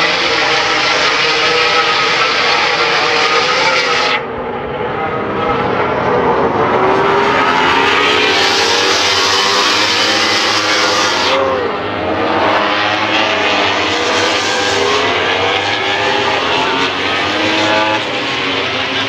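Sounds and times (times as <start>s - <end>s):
race motorcycle engines: 0.0s - 19.0s.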